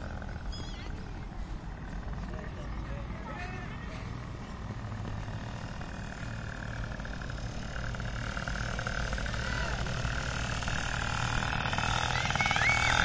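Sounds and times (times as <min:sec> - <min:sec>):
paramotor engine droning: 0:00.0 - 0:13.0.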